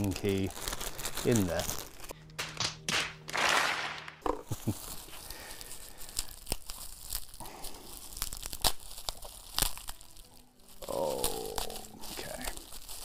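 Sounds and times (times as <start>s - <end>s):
bubble wrap crinkling: 0.0s - 13.0s
bubble wrap popping: 0.0s - 13.0s.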